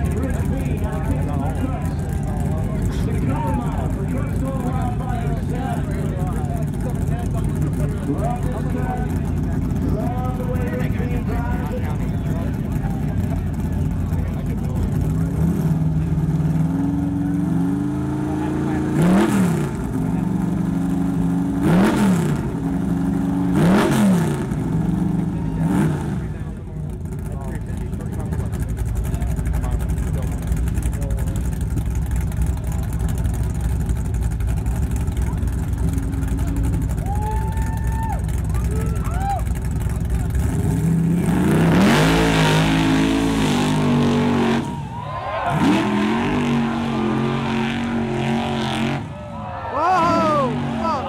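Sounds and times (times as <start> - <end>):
pickup engine idling and revving: 0.0 - 51.0.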